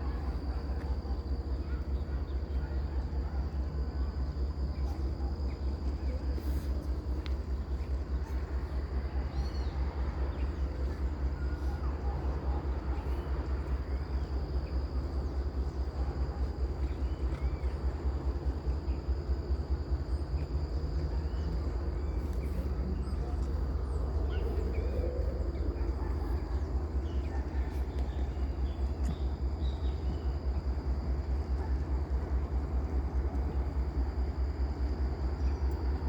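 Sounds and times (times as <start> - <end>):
faint bird chirps: 0.0 - 31.9.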